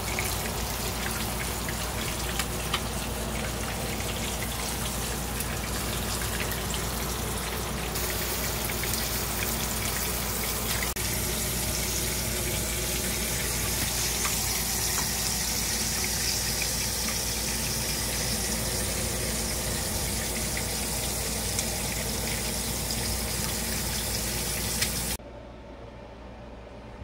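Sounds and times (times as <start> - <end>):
food sizzling in skillet: 0.0 - 25.2.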